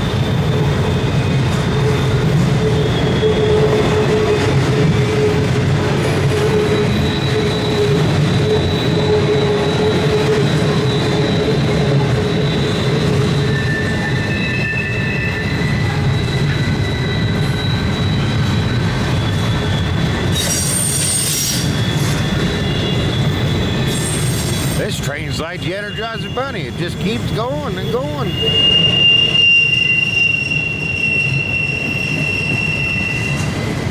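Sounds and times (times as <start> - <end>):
freight train rolling past: 0.0 - 33.9
wheels squealing: 0.0 - 33.9.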